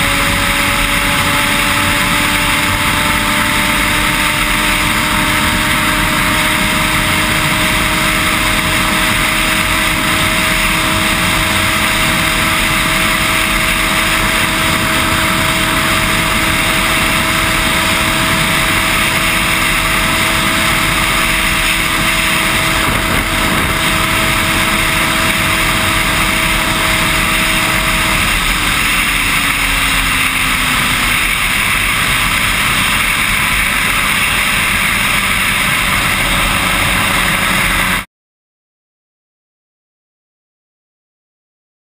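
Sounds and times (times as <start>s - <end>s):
wind rush on microphone: 0.0s - 38.0s
motorcycle engine running hard: 0.0s - 38.1s.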